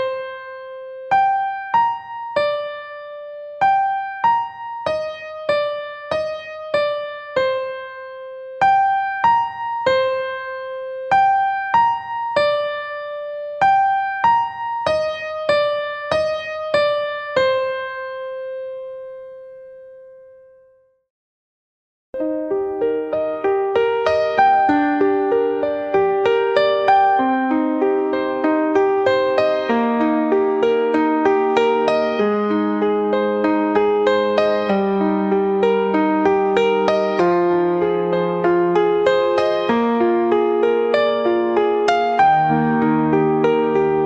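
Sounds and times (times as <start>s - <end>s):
electric piano slow melody: 0.0s - 20.8s, 22.2s - 44.0s.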